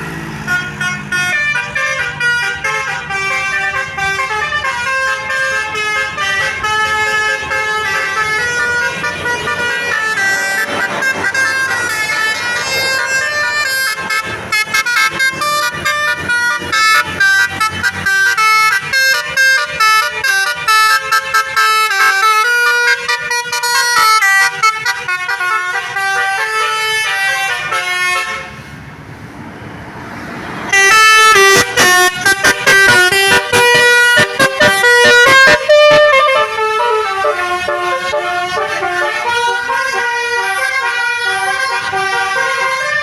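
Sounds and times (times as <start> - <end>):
bus horn playing a tune: 0.0 - 28.7, 30.7 - 43.0.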